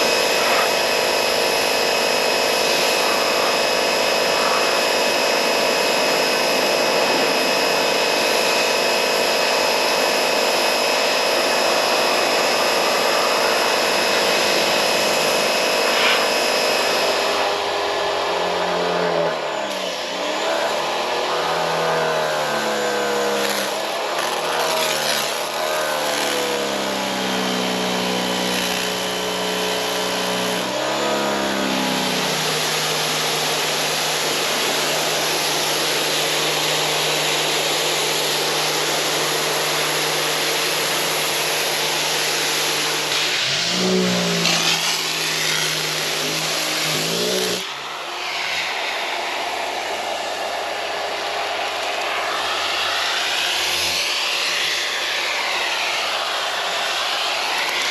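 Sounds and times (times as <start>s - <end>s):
pressure washer engine running: 0.0s - 57.9s.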